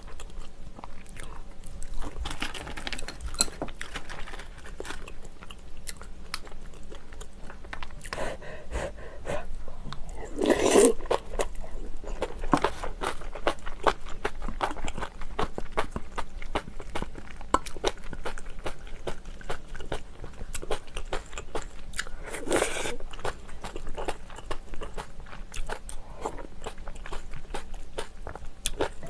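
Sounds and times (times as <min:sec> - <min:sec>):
crunching and chewing: 0:00.0 - 0:08.6, 0:09.9 - 0:29.0.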